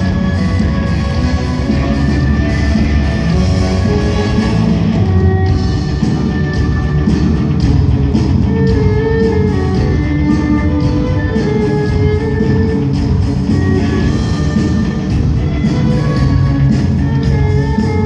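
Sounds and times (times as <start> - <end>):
loud rock music: 0.0 - 18.0.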